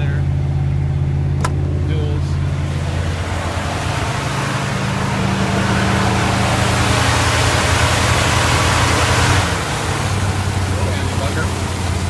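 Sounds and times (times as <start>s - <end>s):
engine idling exhaust: 0.0s - 12.0s.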